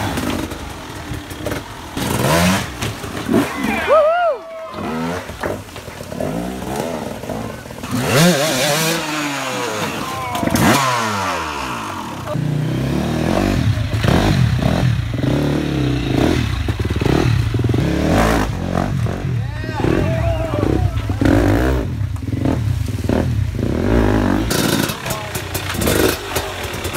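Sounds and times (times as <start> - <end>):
dirt bike engines revving: 0.0 - 26.9.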